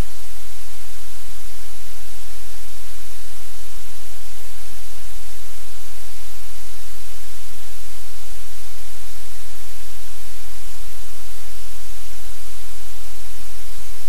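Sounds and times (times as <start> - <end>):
static hiss: 0.0 - 14.0.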